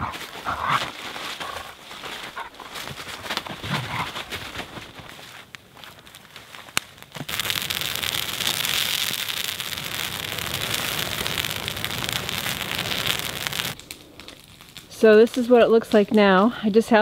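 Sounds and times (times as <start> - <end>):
fire crackling and popping: 0.0 - 16.6.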